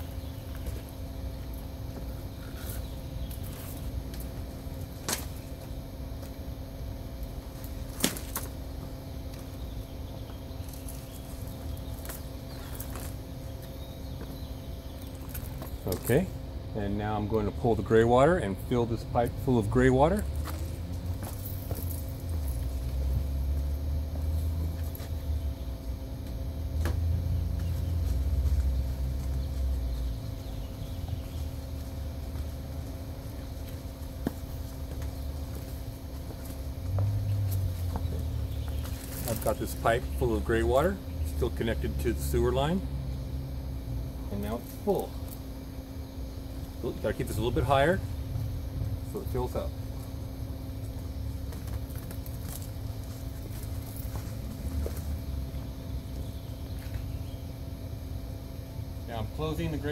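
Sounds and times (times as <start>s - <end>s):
low rumble and hum: 0.0s - 59.9s.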